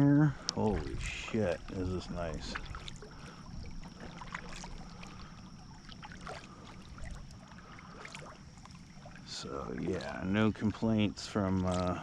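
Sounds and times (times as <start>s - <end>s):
water lapping against kayak hull: 0.0s - 12.0s.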